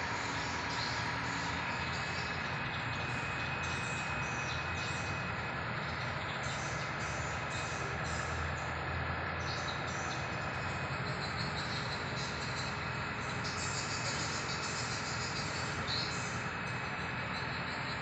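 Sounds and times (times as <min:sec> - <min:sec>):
steady mechanical noise: 0:00.0 - 0:18.0.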